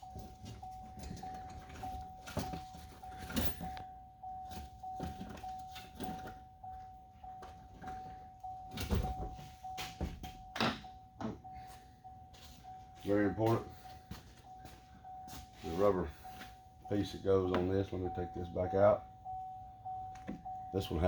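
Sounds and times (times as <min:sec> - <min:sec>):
door warning chime: 0:00.0 - 0:21.0.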